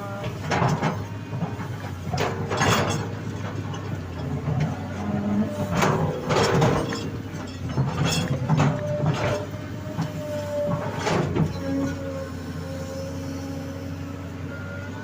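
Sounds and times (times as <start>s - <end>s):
diesel engine running: 0.0s - 15.0s
whining hydraulic tone: 0.0s - 15.0s.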